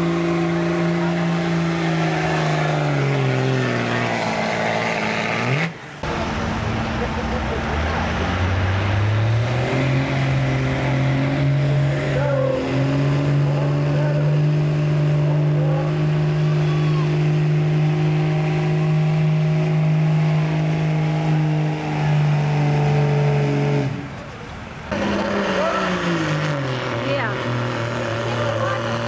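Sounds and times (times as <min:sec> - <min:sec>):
diesel truck engine revving: 0:00.0 - 0:29.0.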